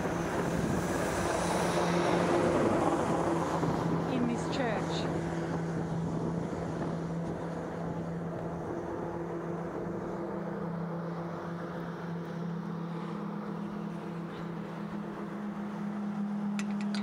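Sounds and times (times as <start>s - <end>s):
higher engine hum: 0.0s - 17.0s
traffic engine drone: 0.0s - 17.0s.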